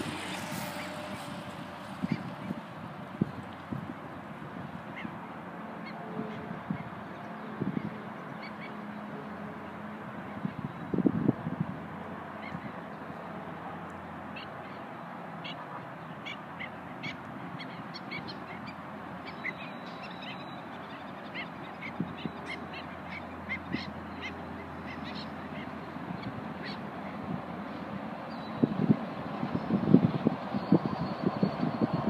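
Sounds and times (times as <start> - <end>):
birds chirping: 0.0 - 9.4, 12.3 - 32.0.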